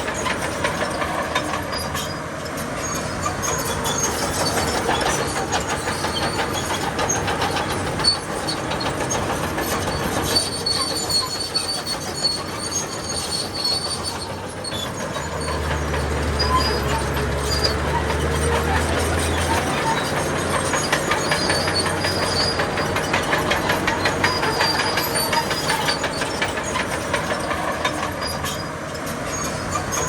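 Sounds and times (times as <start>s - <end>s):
steel tracks clanking and squealing: 0.0s - 30.0s.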